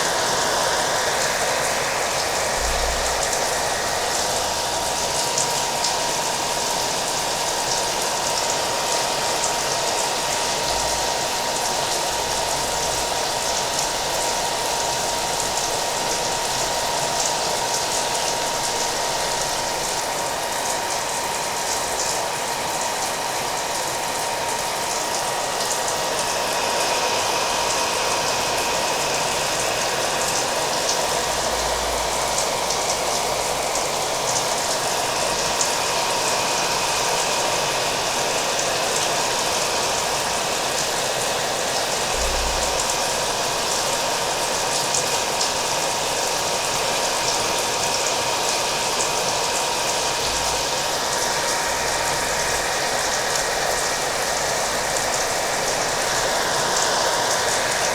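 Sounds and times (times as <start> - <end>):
hair dryer running: 0.0 - 57.9
steady rain hiss: 0.0 - 57.9.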